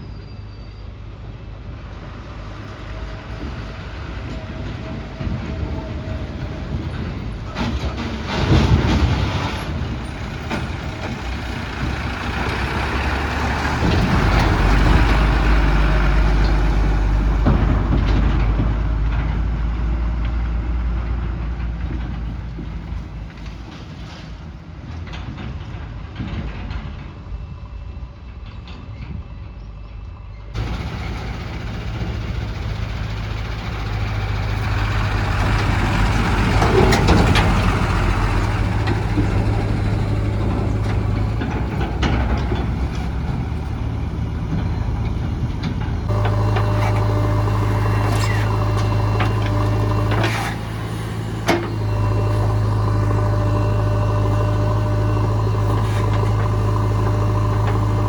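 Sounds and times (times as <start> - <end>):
heavy diesel engines under load: 0.0 - 58.0.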